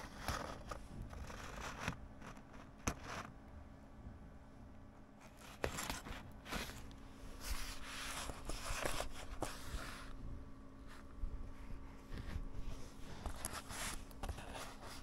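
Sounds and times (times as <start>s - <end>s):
scratchy rustling and scraping: 0.0s - 3.4s, 5.2s - 15.0s.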